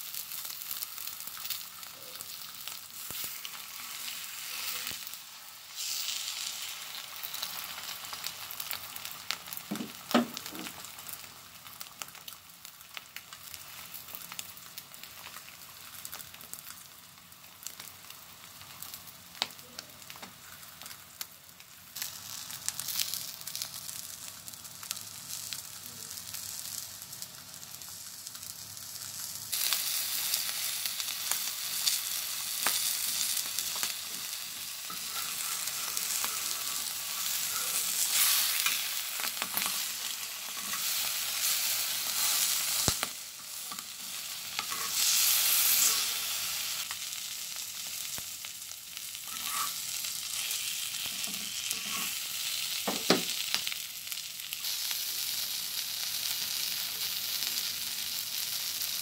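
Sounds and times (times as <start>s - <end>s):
food sizzling on a griddle: 0.0s - 59.0s.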